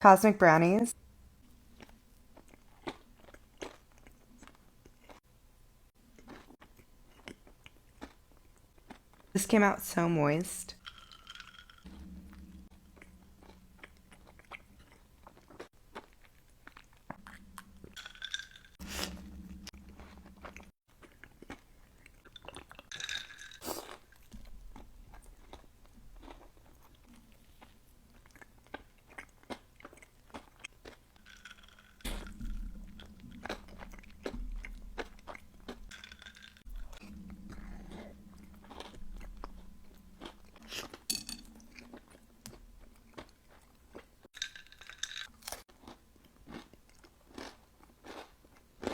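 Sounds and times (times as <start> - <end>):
person chewing brownie: 1.7 - 5.3, 6.0 - 9.3, 11.4 - 18.0, 19.0 - 22.9, 23.7 - 44.3, 45.3 - 48.9.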